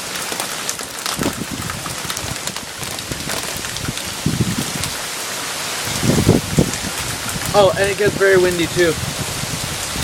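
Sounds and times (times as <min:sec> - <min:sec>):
heavy rain falling: 0:00.0 - 0:10.0
wind buffeting microphone: 0:01.0 - 0:05.2, 0:05.8 - 0:10.0.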